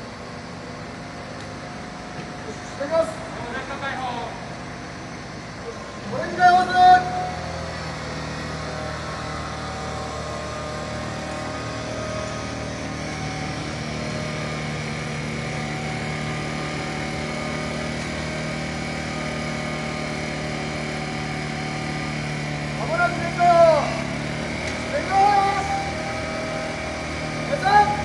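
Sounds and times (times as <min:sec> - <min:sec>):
fire truck engine running: 0:00.0 - 0:28.0.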